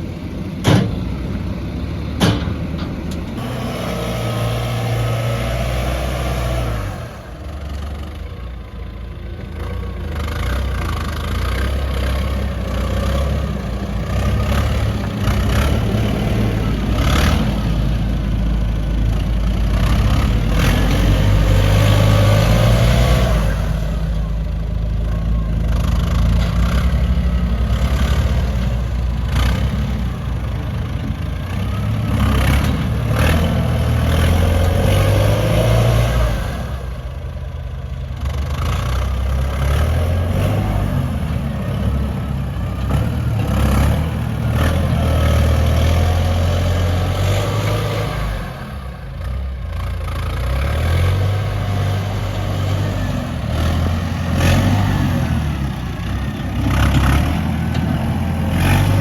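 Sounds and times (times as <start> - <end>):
heavy machinery engine: 0.0 - 59.0.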